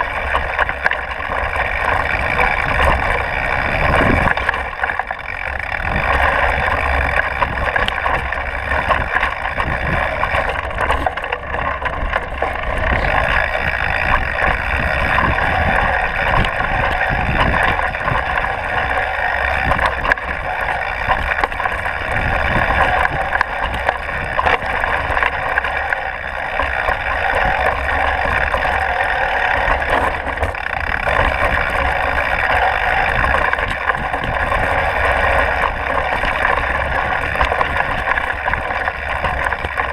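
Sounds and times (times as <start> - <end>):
bike rattling over rocks: 0.0 - 39.9
bike tyres rumbling over dirt: 0.0 - 39.9.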